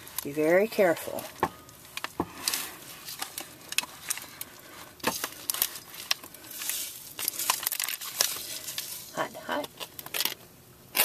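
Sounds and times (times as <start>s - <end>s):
aluminum foil crinkling: 0.0s - 10.4s.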